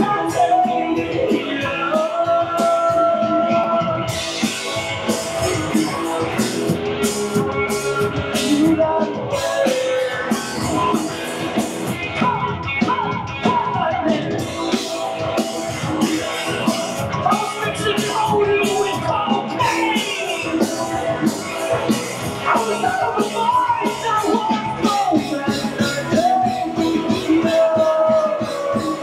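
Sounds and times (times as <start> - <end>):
man singing lead vocal: 0.0 - 29.0
rock band playing: 0.0 - 29.0.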